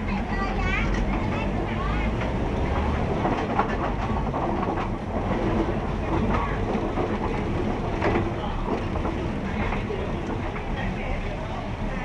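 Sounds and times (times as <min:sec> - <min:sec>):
train knocks and clatter: 0:00.0 - 0:11.9
train wheels rumbling on rail: 0:00.0 - 0:12.0.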